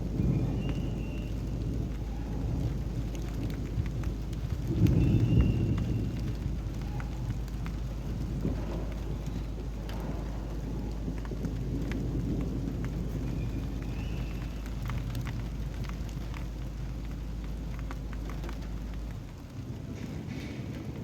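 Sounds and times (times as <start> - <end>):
low roll of thunder: 0.0 - 21.0
raindrops pattering: 0.0 - 21.0
steady rain falling: 0.0 - 21.0.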